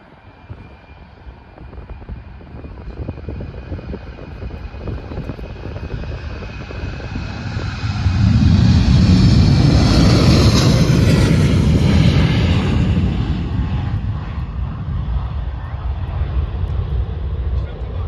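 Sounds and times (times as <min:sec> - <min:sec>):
jet engine whine: 0:00.0 - 0:18.0
jet engines roaring at takeoff: 0:00.0 - 0:18.0.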